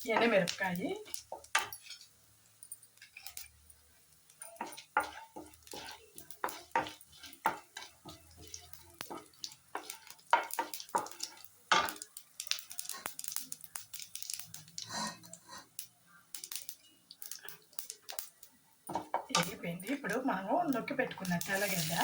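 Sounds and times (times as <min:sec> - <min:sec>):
spoon scraping and knocking pan: 0:00.0 - 0:15.8, 0:16.4 - 0:22.0
spices frying in oil: 0:00.0 - 0:22.0.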